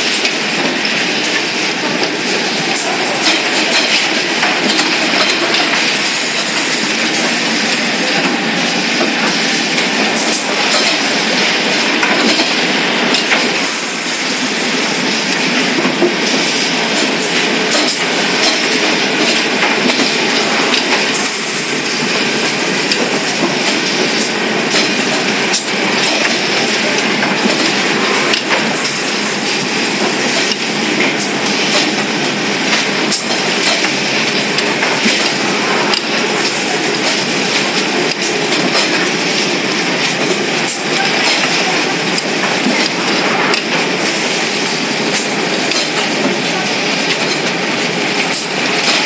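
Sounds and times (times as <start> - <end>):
packing machine clatter: 0.0 - 49.0.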